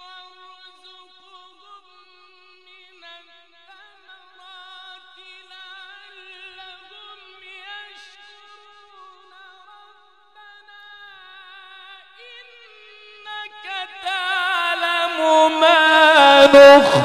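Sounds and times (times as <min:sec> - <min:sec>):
man chanting a melodic recitation: 0:00.0 - 0:17.0.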